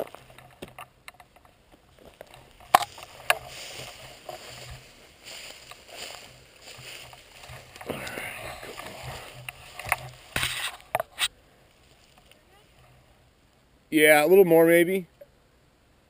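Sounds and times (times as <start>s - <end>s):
rustling and scraping of a gun: 0.0s - 13.2s.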